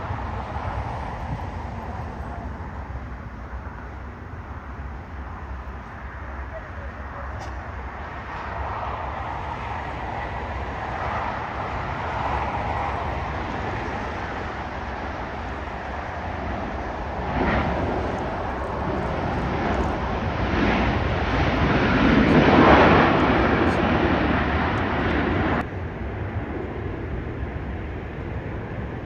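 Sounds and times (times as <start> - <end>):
jet engine and airflow rushing: 0.0 - 29.0.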